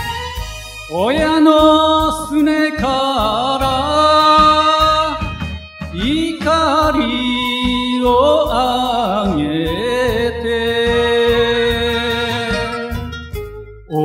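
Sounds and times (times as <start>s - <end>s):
backing track with steady beat: 0.0s - 14.0s
person singing: 0.8s - 13.2s.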